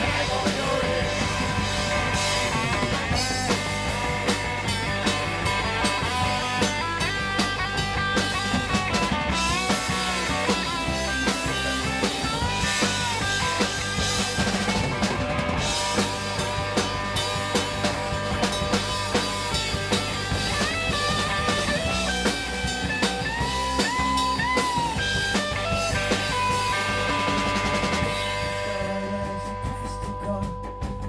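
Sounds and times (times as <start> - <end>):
bass guitar: 0.0 - 31.0
drum kit steady beat: 0.0 - 31.0
electric guitar lead: 0.0 - 31.0.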